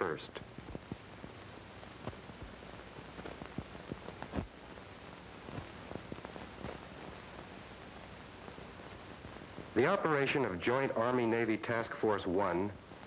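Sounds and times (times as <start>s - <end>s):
old film soundtrack hiss: 0.0s - 13.0s.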